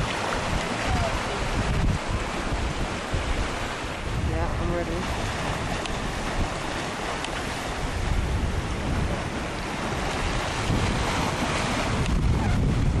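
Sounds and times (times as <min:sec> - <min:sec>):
choppy sea water rushing: 0:00.0 - 0:13.0
wind buffeting microphone: 0:00.0 - 0:13.0.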